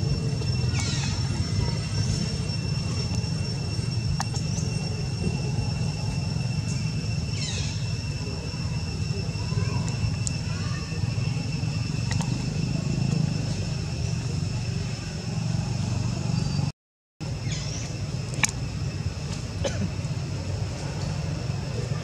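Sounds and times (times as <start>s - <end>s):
high-pitched whines: 0.0s - 22.0s
low rumble: 0.0s - 22.0s.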